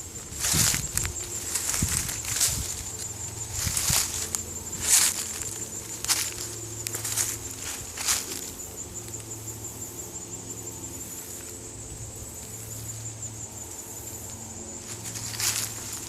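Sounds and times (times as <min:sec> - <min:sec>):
insects trilling: 0:00.0 - 0:16.0
low steady hum: 0:00.0 - 0:16.0.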